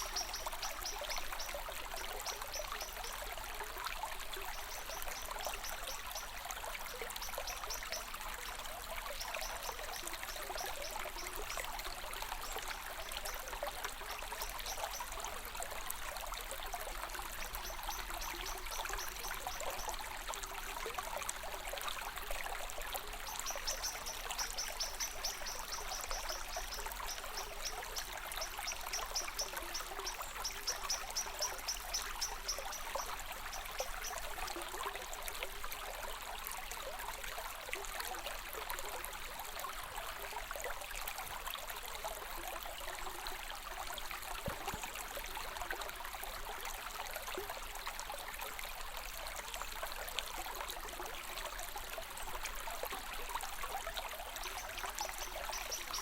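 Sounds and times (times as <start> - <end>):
stream of water trickling: 0.0 - 56.0.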